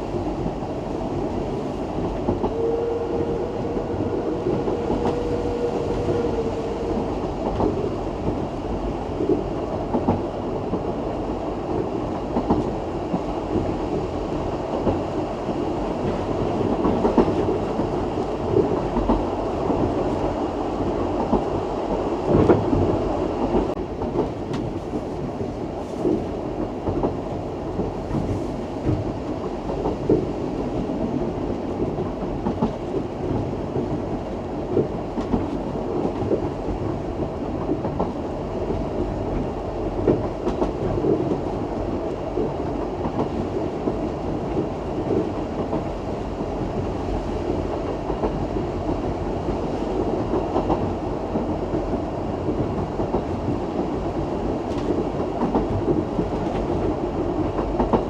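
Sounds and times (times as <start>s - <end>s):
train carriage running on rails: 0.0s - 58.0s.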